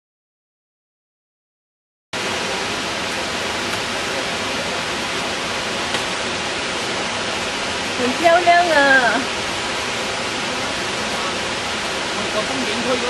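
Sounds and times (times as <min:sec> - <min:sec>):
stream rushing: 0:02.2 - 0:13.0.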